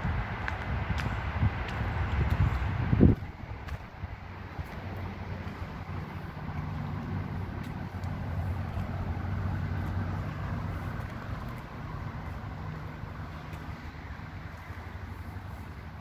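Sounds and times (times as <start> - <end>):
vehicle engine rumble passing: 0.0 - 16.0.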